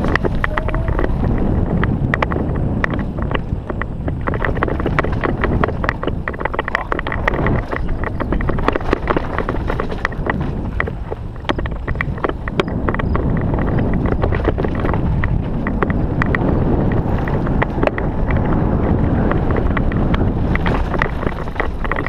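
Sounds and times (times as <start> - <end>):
bike rattling over rough trail: 0.0 - 22.0
wind rumbling on microphone: 0.0 - 22.0.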